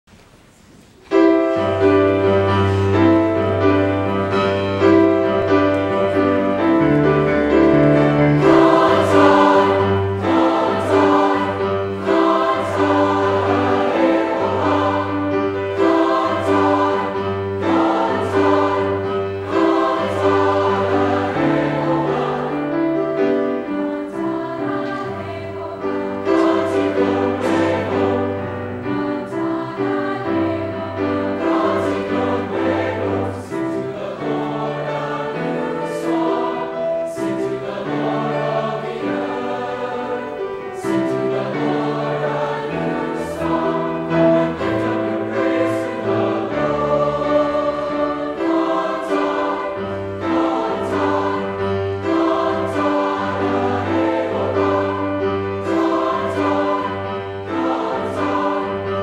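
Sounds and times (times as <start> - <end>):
choir singing: 1.1 - 59.0.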